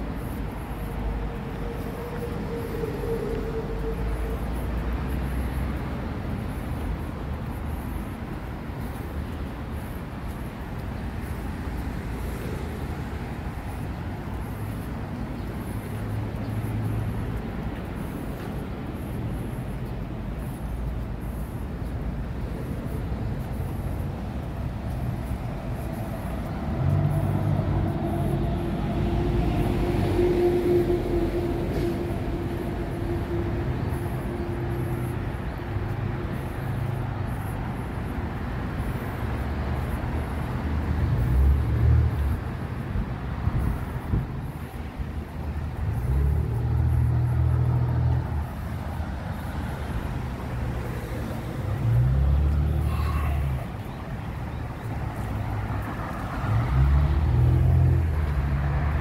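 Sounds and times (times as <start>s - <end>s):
road traffic rumble: 0.0s - 59.0s
vehicle engine hum: 0.0s - 59.0s.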